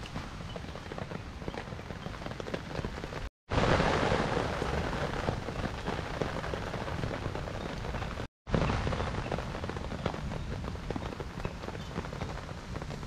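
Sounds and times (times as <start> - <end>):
campfire crackling: 0.0 - 13.0
rain pattering on a tarp: 0.0 - 13.0.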